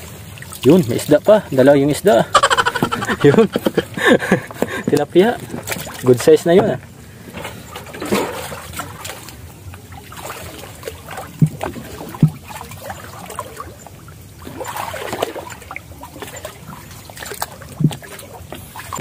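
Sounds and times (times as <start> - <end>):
people wading through shallow water: 0.0 - 19.0.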